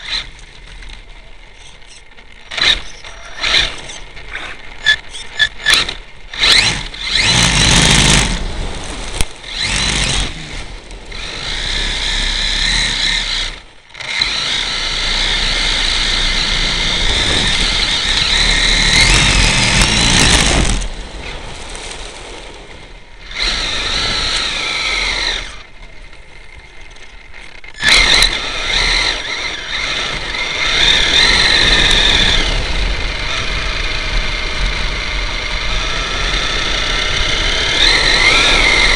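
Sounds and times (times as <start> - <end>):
rc truck motor whining: 0.0 - 21.9, 23.2 - 38.9
tyre and chassis noise: 0.0 - 38.9.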